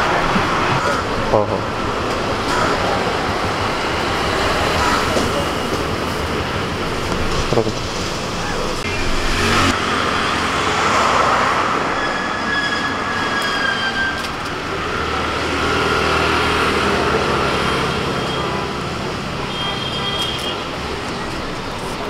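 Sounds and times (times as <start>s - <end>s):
passing traffic: 0.0s - 22.0s.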